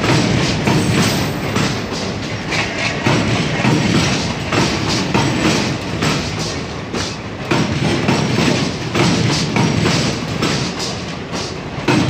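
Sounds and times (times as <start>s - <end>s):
train wheels clattering over joints: 0.0s - 12.0s.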